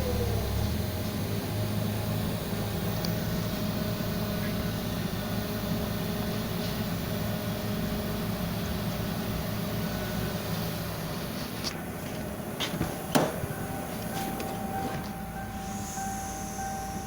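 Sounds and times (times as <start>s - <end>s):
car engine running steadily: 0.0s - 17.0s.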